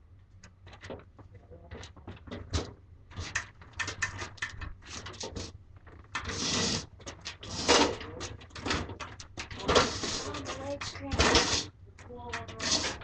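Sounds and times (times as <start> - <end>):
objects knocking and clicking: 0.4 - 13.0.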